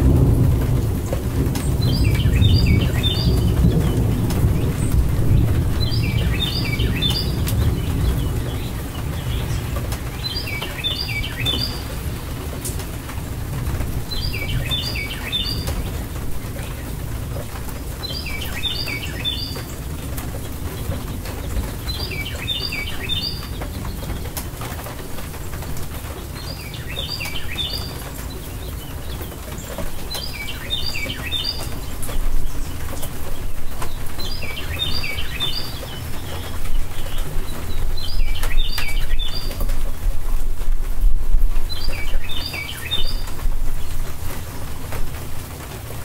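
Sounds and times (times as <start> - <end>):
rain hiss and rumble: 0.0 - 46.0
songbird singing: 1.0 - 46.0.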